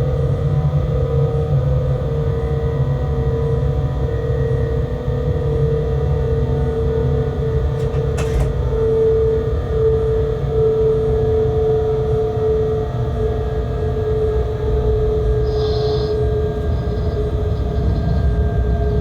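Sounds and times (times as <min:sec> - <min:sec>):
locomotive cab rumble and hum: 0:00.0 - 0:19.0.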